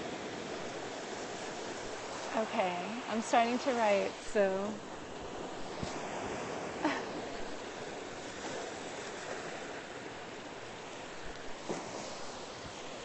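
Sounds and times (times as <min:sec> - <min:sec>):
ocean surf on sandy beach: 0:00.0 - 0:13.0.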